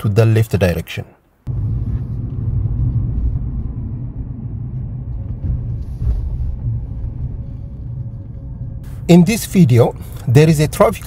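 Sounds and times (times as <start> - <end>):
car interior road rumble: 1.5 - 11.0.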